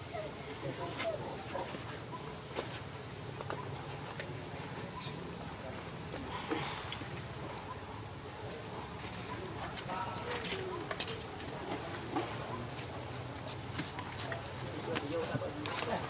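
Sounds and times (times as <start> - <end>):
insect chorus shrill tones: 0.0 - 16.0.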